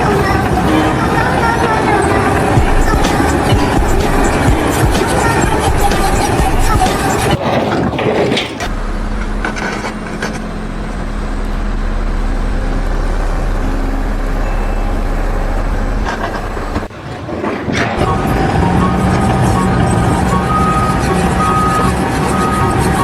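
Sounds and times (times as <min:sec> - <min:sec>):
heavy vehicle engine humming: 0:00.0 - 0:23.0.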